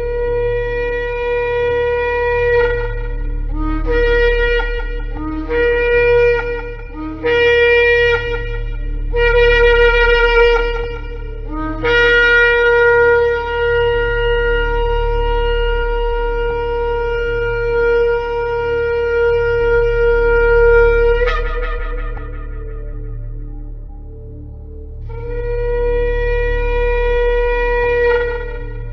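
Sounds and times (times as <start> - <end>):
shofar blasts: 0.0 - 23.8, 25.1 - 28.9.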